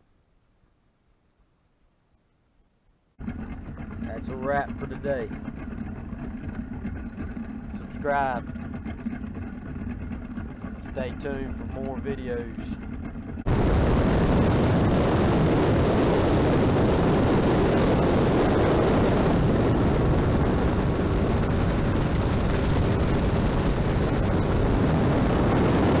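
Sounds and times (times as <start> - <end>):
motorboat engine drone: 3.2 - 26.0
wind and water rushing: 3.2 - 26.0.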